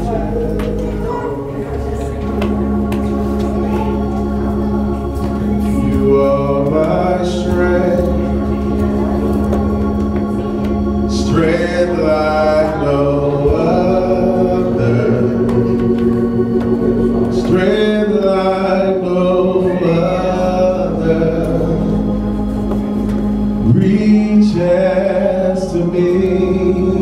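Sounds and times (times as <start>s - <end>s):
organ sustained chords: 0.0s - 27.0s
voices singing: 0.0s - 27.0s.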